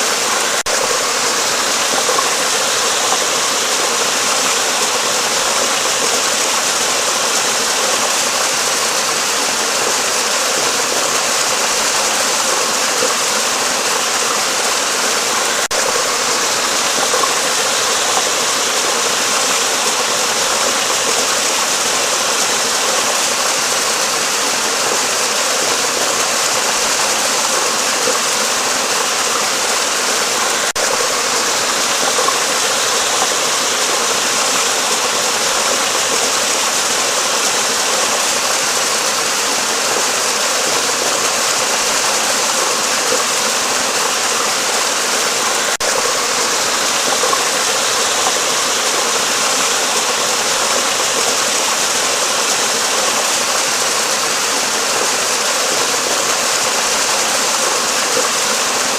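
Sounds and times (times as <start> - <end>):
stream water rushing: 0.0 - 58.9.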